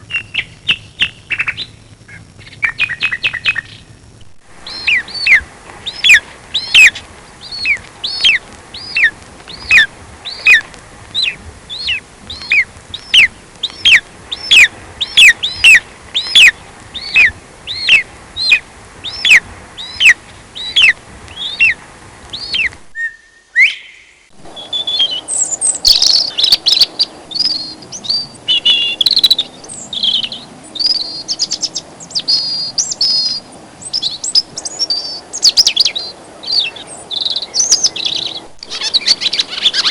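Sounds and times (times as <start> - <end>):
bird high chirps and trills: 0.0 - 4.0, 4.6 - 39.9.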